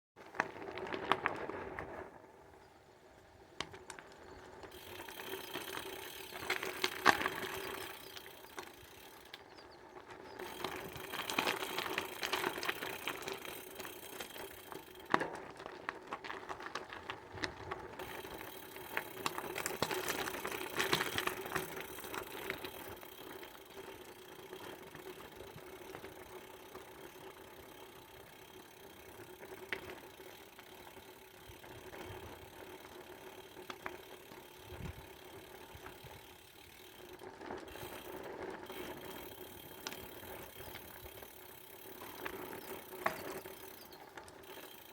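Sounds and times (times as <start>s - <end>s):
bike rattling and clicking: 0.2s - 44.9s.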